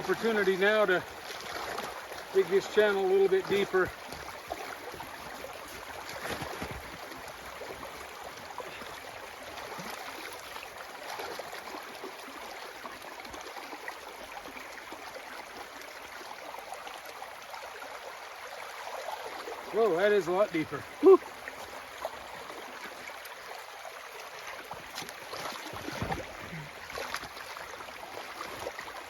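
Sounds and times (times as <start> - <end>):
water running in a ditch: 0.0 - 29.0.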